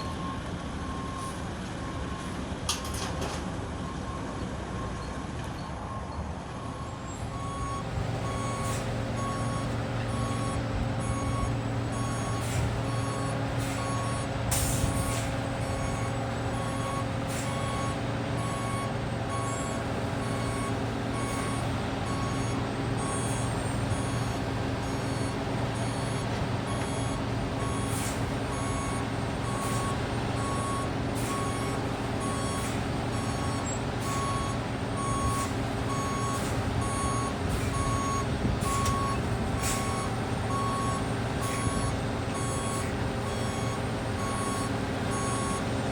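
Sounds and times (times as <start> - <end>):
truck backup alarm beeping: 0.0 - 2.4, 5.8 - 45.9
diesel engine running: 6.4 - 45.9.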